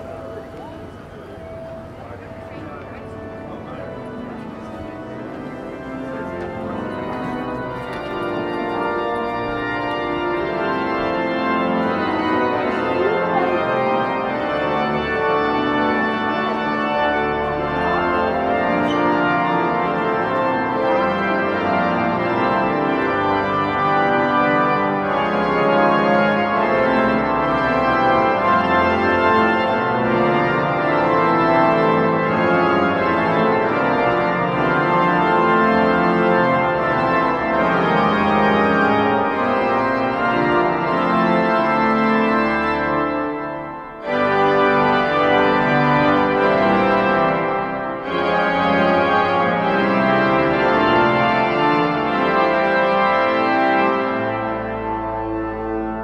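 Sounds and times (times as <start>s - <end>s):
organ music: 0.0s - 56.0s.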